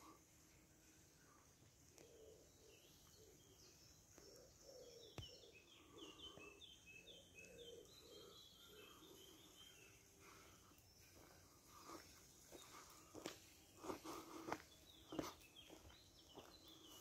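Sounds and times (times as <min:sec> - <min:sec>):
soft low bird calls: 0:00.0 - 0:17.0.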